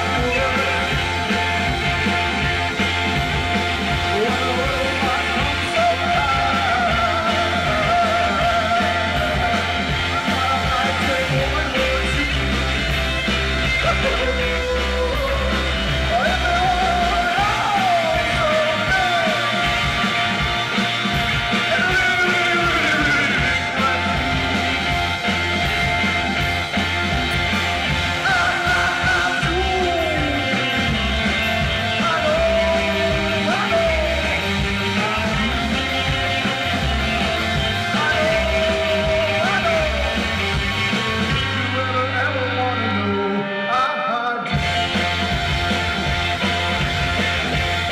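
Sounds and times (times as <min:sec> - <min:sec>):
person singing: 0:00.0 - 0:13.0, 0:13.6 - 0:26.0, 0:27.9 - 0:44.8
drum kit: 0:00.0 - 0:43.2, 0:44.4 - 0:47.9
electric guitar: 0:00.0 - 0:47.9
keyboard: 0:00.0 - 0:47.9.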